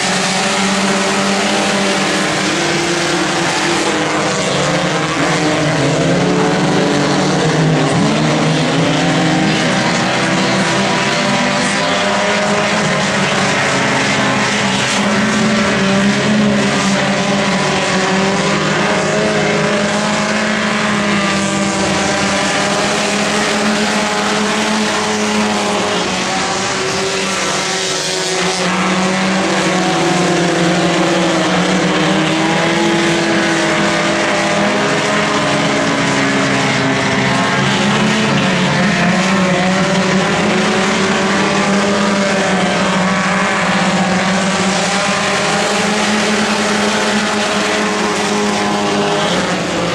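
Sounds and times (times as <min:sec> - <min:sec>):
racing car engines: 0:00.0 - 0:49.9.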